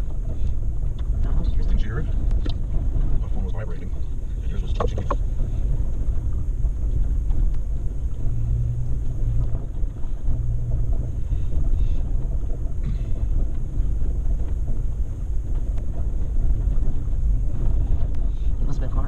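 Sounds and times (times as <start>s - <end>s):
off-road vehicle driving: 0.0s - 19.0s.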